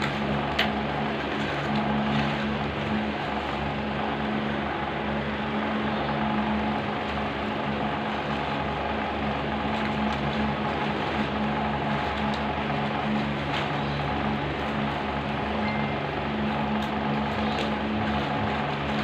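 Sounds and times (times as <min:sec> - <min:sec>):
constant rushing noise: 0:00.0 - 0:19.0
motor hum: 0:00.0 - 0:19.0.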